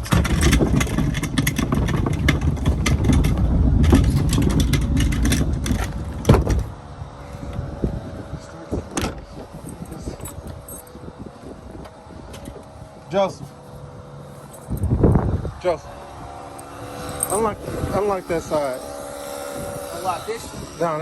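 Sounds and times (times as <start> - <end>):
vehicle rumbling and rattling: 0.0 - 21.0.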